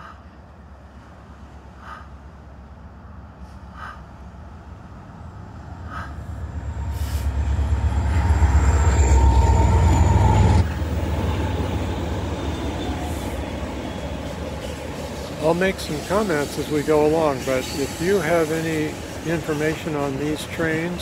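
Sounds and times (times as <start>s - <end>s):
freight train passing: 0.0s - 21.0s.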